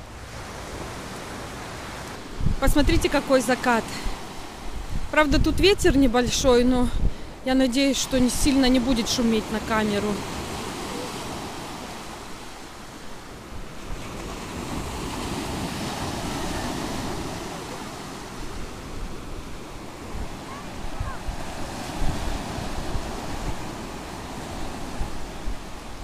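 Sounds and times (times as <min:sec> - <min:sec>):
wind buffeting the microphone: 0:00.0 - 0:09.1, 0:10.4 - 0:26.0.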